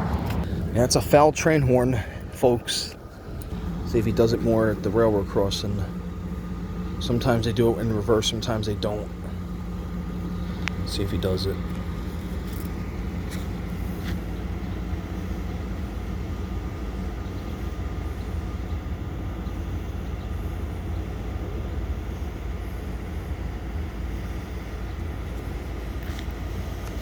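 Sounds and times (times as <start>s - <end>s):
diesel locomotive rumbling: 0.0s - 27.0s.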